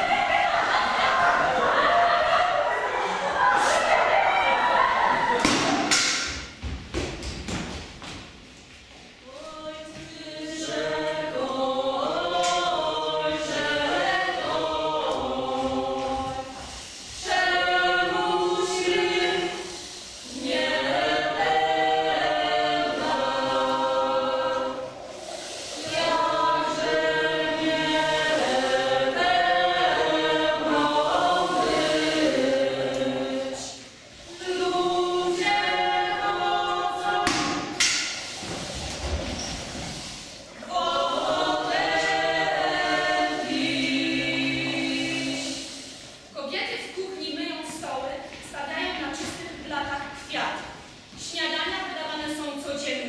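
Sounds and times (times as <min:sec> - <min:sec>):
choir singing: 0:00.0 - 0:05.9, 0:09.3 - 0:46.2.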